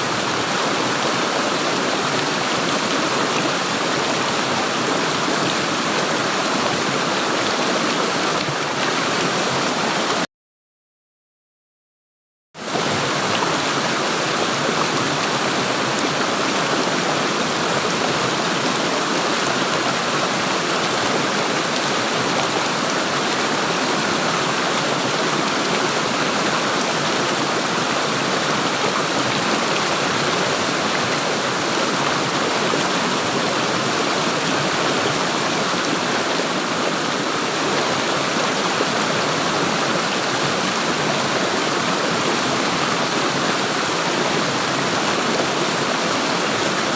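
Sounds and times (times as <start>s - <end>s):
stream water rushing: 0.0s - 10.2s, 12.6s - 46.9s.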